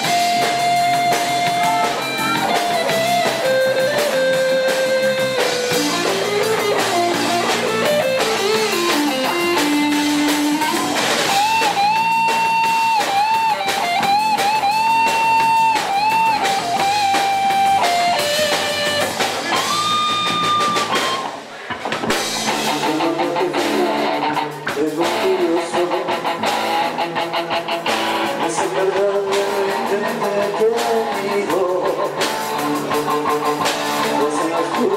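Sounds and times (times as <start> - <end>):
band music: 0.0 - 34.9
held lead melody line: 0.0 - 34.9.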